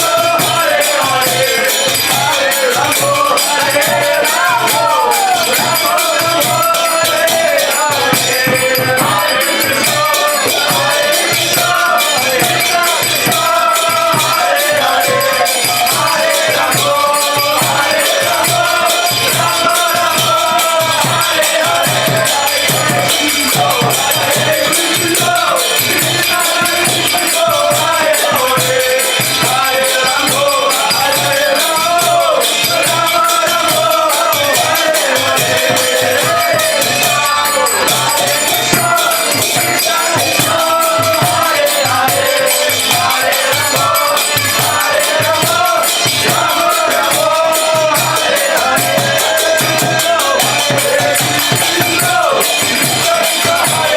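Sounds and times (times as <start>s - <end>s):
jingling hand percussion: 0.0s - 53.9s
melodic chanting: 0.0s - 53.9s
steady drum beat: 0.0s - 53.9s.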